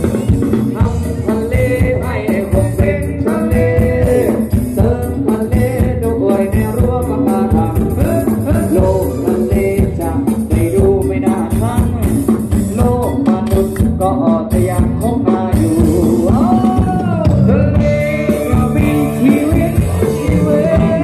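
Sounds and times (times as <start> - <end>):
live band playing dance song: 0.0 - 21.0
person singing: 0.0 - 21.0.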